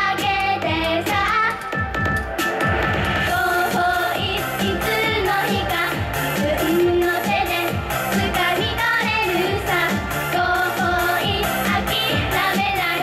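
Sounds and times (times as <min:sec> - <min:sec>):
girls singing into microphones: 0:00.0 - 0:01.7, 0:03.3 - 0:13.0
pop backing track with beat: 0:00.0 - 0:13.0.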